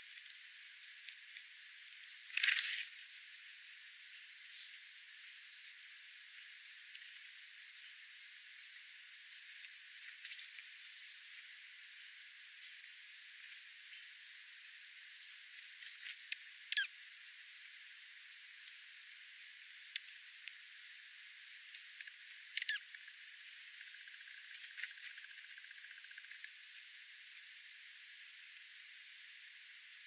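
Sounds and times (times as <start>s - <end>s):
songbirds chirping: 3.0s - 29.4s.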